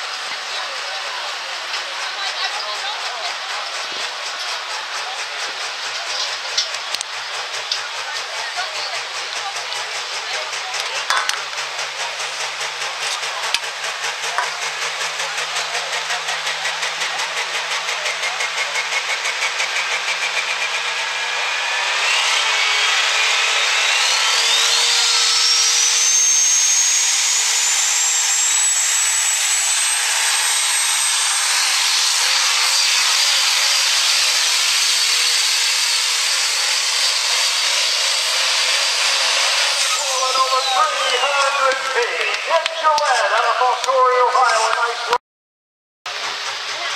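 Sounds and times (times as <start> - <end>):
diesel truck engine pulsing: 0.0 - 45.2, 46.1 - 46.9
turbocharger whine: 5.6 - 45.2.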